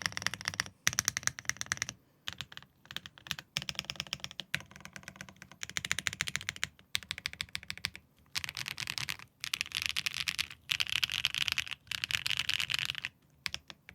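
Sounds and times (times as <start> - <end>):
fast mechanical keyboard typing: 0.0 - 13.9.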